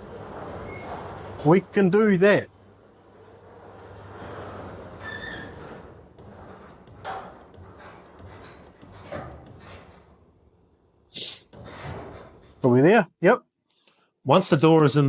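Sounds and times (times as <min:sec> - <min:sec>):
garage door knocking and rattling: 0:00.0 - 0:12.6
garage door opener motor: 0:00.0 - 0:12.6.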